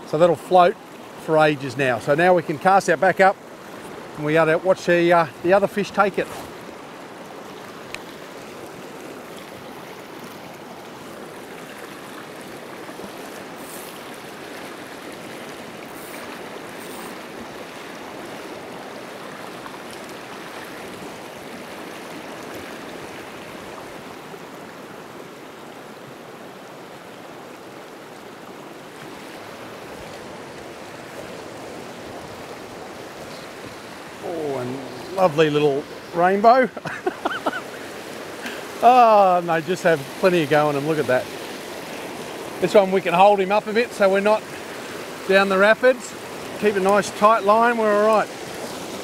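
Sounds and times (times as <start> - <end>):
river rushing over rocks: 0.0 - 49.0.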